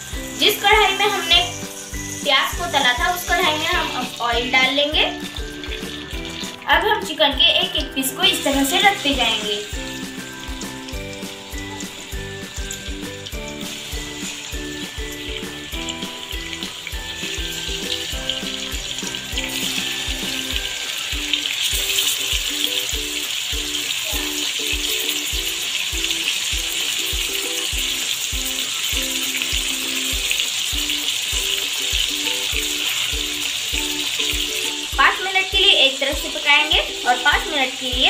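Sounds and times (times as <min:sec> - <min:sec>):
background music with steady beat: 0:00.0 - 0:38.0
chicken sizzling in hot oil: 0:00.0 - 0:38.0.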